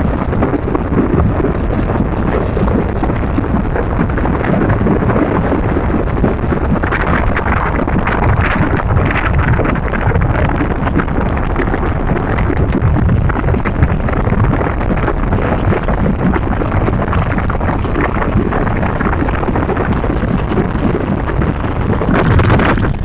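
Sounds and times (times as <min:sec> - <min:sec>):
vehicle rumble: 0:00.0 - 0:23.0
wind rushing over microphone: 0:00.0 - 0:23.0.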